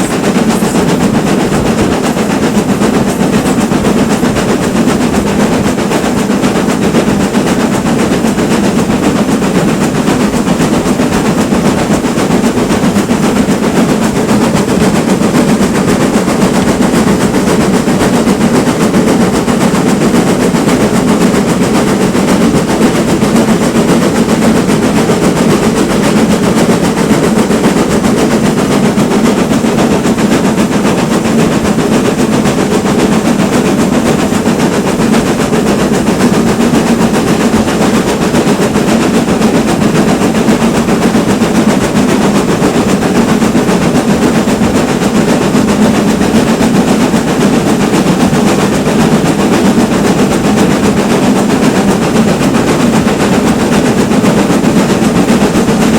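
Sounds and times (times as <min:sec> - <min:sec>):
steam train clattering: 0:00.0 - 0:55.9.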